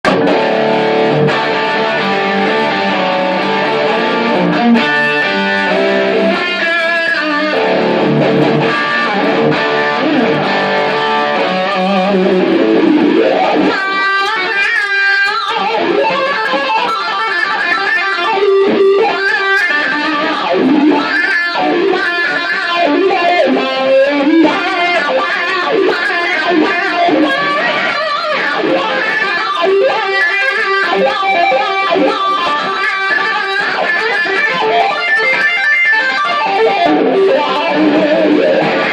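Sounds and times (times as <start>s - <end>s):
electric guitar playing: 0.0s - 38.9s.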